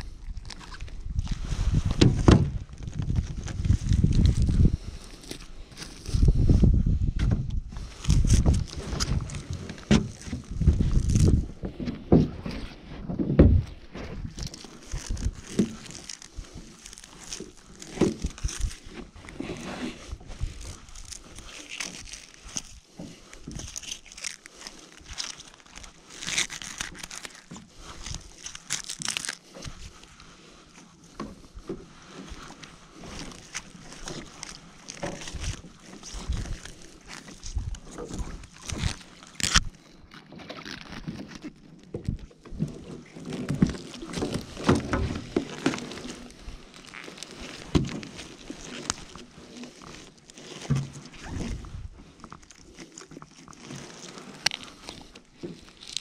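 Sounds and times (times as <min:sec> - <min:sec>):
wet net crackling rustle: 0:00.0 - 0:06.9, 0:07.6 - 0:56.0.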